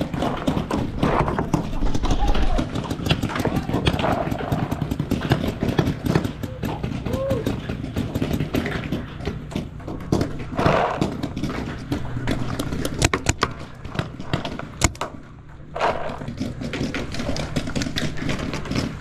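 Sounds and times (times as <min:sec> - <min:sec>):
rustling of movement and gear: 0:00.0 - 0:19.0.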